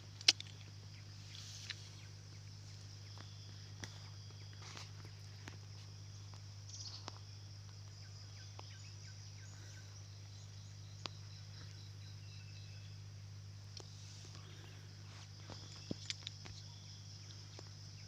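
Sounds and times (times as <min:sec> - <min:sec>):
insect chirps: 0:00.0 - 0:18.0
insects trilling: 0:00.0 - 0:18.0
low hum: 0:00.0 - 0:18.0.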